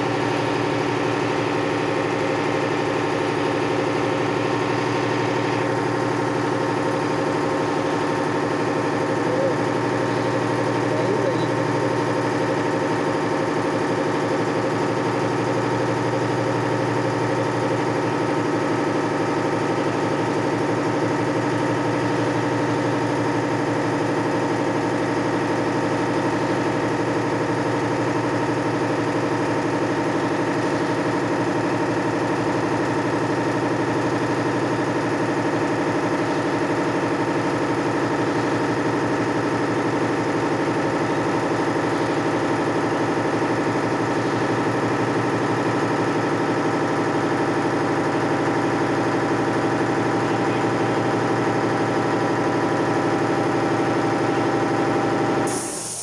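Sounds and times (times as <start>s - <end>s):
air compressor pulsing: 0.0s - 56.0s.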